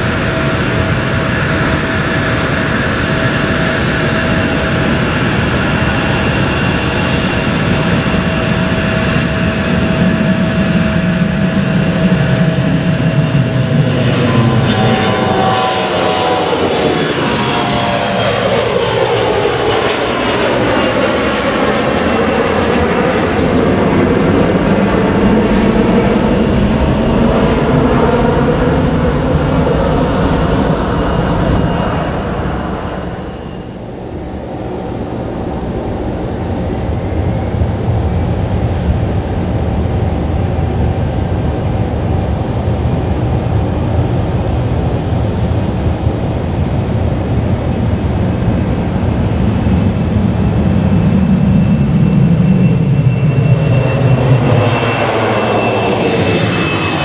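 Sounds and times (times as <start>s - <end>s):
airliner engines whining: 0.0s - 57.0s.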